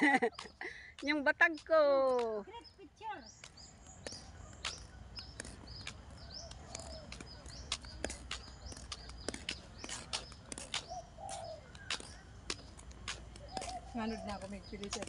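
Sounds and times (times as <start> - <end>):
bird chirps: 0.0 - 15.0
footsteps on pavement: 0.0 - 15.0.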